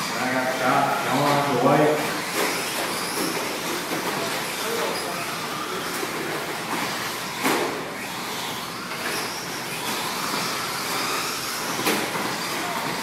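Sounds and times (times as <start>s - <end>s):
rc truck motors hissing: 2.1s - 13.0s.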